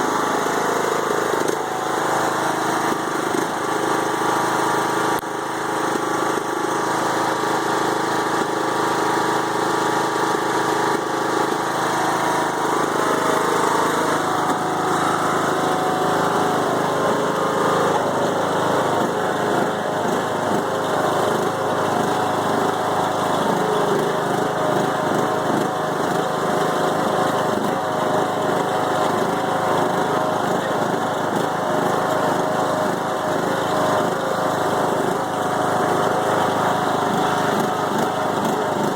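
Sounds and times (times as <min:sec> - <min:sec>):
mower engine rough idle: 0:00.0 - 0:38.9.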